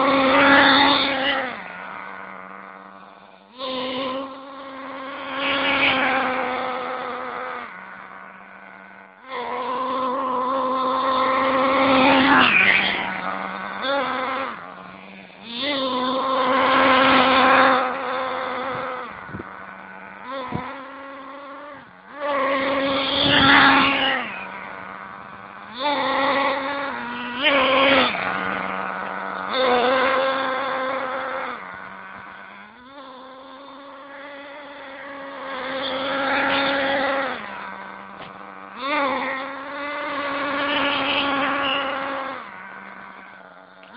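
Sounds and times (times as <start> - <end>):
nitro engine buzzing: 0.0 - 43.9.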